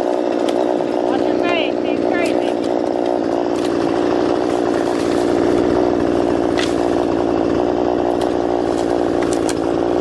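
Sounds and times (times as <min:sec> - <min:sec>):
chainsaw engine running: 0:00.0 - 0:10.0
loppers snapping branches: 0:00.0 - 0:10.0.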